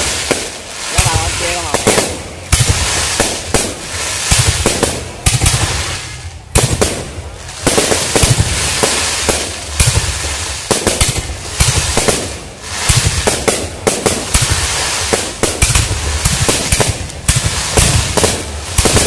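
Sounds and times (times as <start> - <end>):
fireworks bangs and crackles: 0.0 - 19.0
fireworks launch hiss: 0.0 - 19.0.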